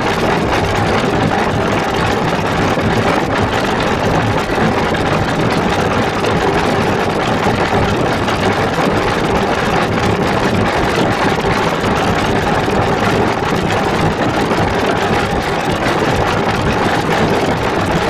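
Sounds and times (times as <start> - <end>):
processed droning noise: 0.0 - 18.0.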